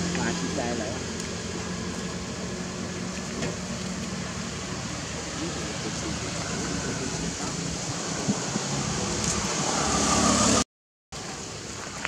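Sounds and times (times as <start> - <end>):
motor vehicle engine rumble: 0.0 - 10.6.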